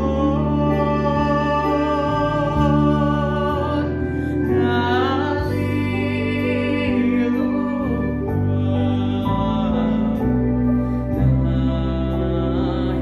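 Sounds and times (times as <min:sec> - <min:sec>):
instrumental accompaniment: 0:00.0 - 0:13.0
young man singing slow song: 0:00.0 - 0:13.0.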